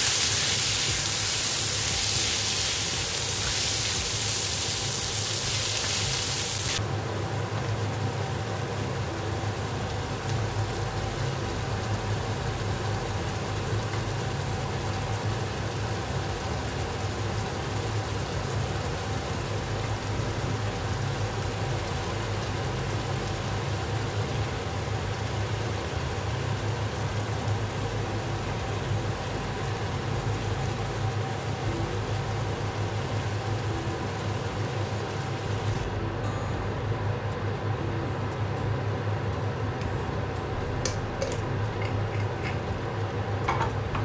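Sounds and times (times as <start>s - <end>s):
meat and onions sizzling in a wok: 0.0s - 35.9s.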